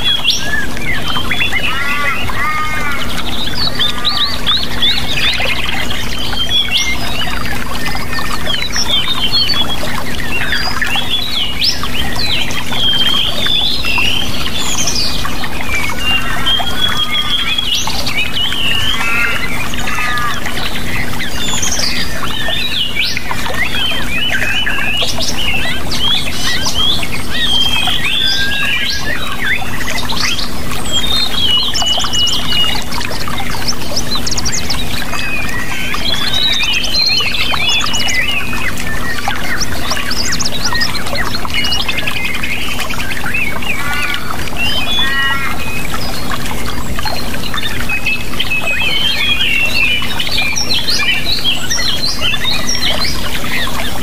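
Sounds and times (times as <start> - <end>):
rushing water: 0.0 - 54.0
songbirds chirping and trilling: 0.0 - 54.0.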